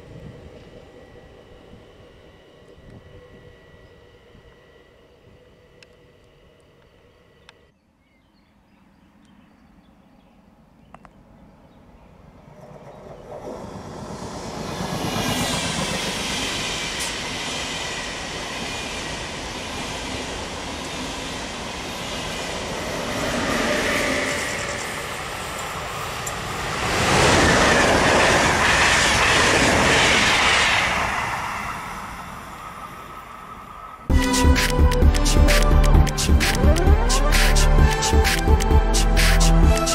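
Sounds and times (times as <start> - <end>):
train wheel and rail noise: 0.0 - 7.7, 11.2 - 39.9.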